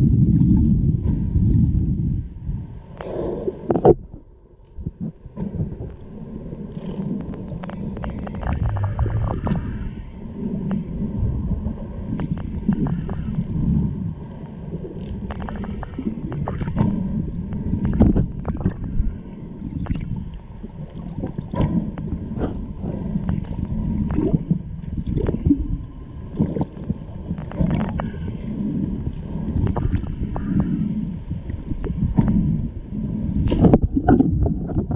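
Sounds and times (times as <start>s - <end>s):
underwater clicks and crackles: 0.0s - 34.9s
underwater rumbling wash: 0.0s - 34.9s.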